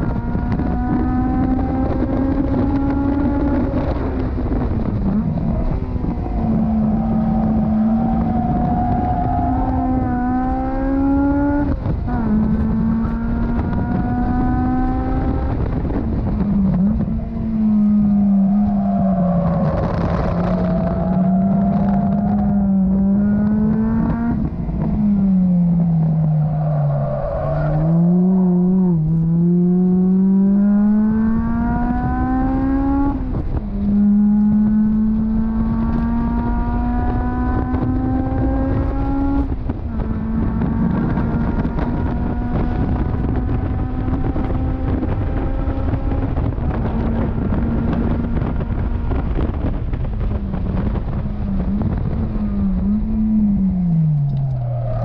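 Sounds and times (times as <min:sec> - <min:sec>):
car engine revving through gears: 0:00.0 - 0:55.0
wind rush: 0:00.0 - 0:55.0.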